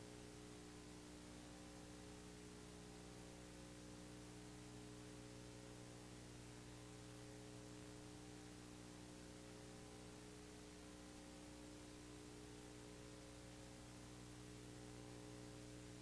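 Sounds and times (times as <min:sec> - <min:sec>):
faint electrical hum with hiss: 0:00.0 - 0:16.0.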